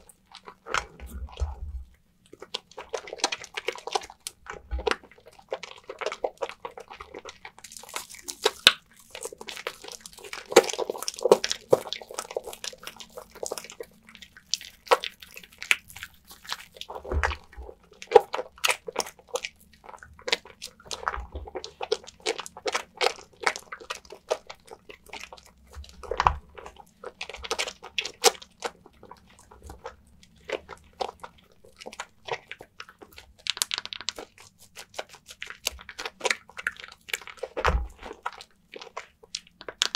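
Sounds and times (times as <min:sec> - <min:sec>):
soap lather squelching: 0:00.0 - 0:39.9.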